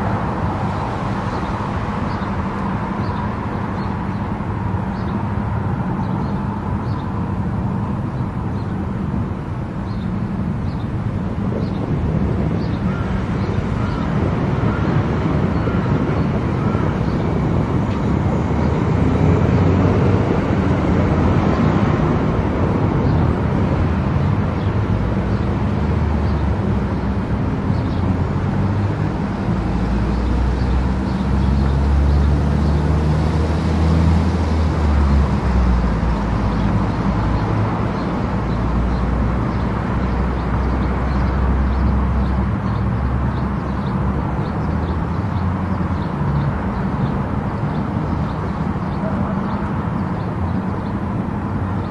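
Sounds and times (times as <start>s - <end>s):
tyre and road noise: 0.0s - 51.9s.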